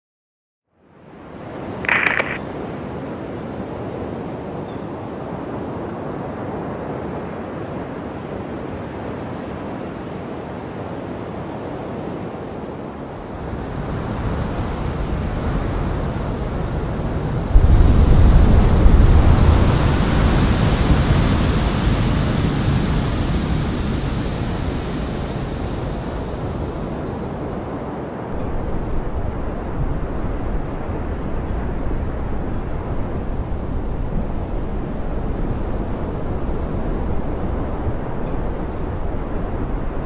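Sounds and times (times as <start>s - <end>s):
heavy ocean surf: 1.4s - 40.0s.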